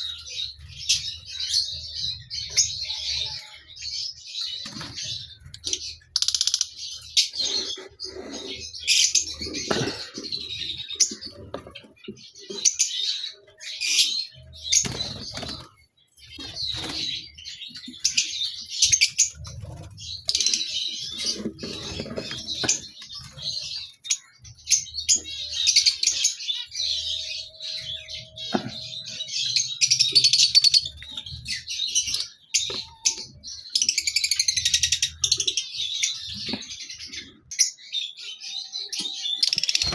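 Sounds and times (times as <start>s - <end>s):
lovebirds chirping and chattering: 0.0s - 39.9s.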